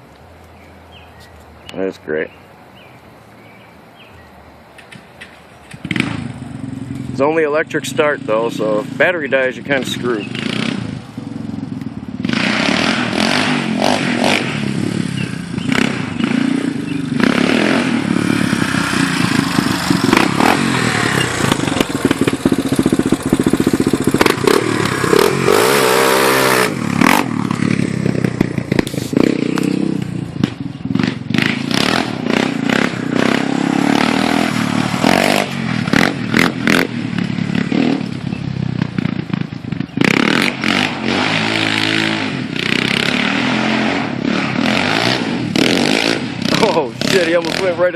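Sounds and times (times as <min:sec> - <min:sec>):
atv engine revving: 0:05.6 - 0:47.9.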